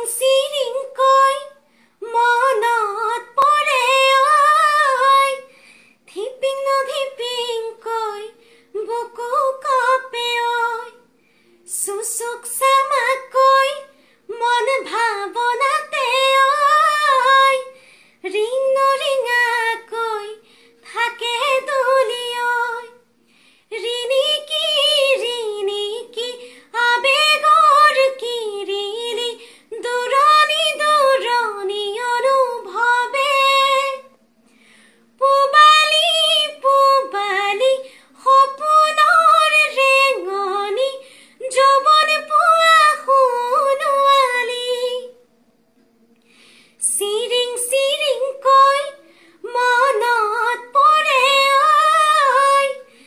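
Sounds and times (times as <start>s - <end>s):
woman singing unaccompanied: 0.0s - 11.1s, 11.7s - 23.1s, 23.7s - 34.2s, 35.2s - 45.3s, 46.8s - 53.0s.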